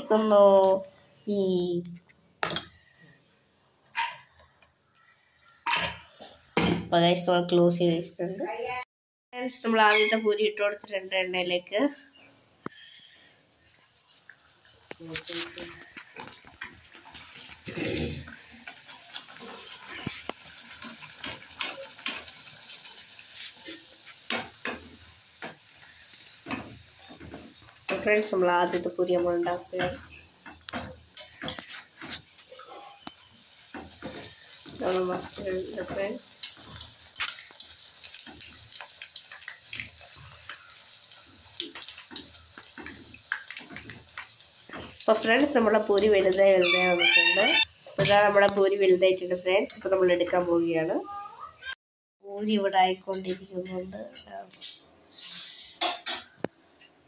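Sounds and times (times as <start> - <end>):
oil sizzling and bubbling: 0.0 - 8.1, 9.4 - 57.0.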